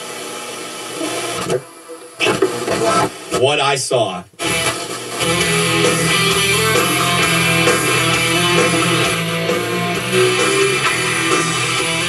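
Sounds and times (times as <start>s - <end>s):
guitar music from radio: 1.0s - 3.4s, 4.4s - 12.0s.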